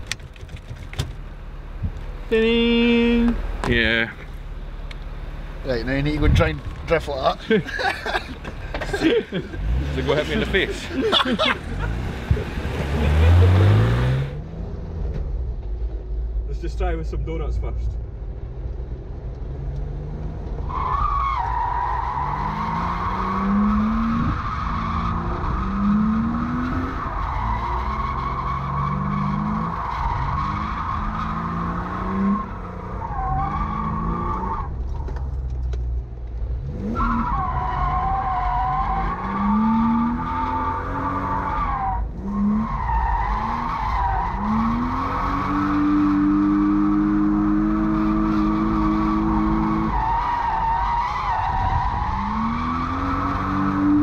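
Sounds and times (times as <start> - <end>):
car engine revving: 0.0 - 16.5, 18.0 - 54.0.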